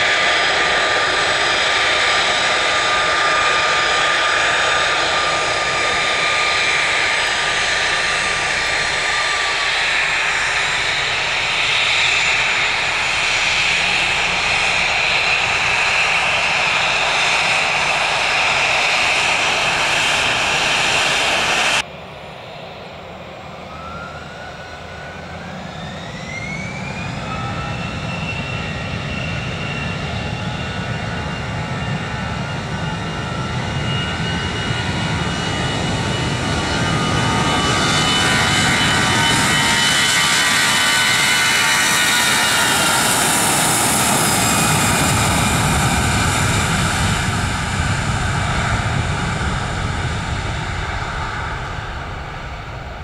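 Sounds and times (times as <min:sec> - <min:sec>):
jet engines running: 0:00.0 - 0:53.0
jet engines spooling up whine: 0:00.0 - 0:53.0.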